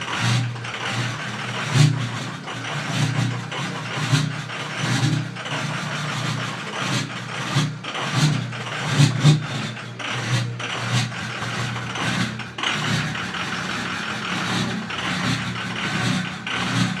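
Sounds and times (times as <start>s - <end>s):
diesel engine idling roughly: 0.0s - 17.0s.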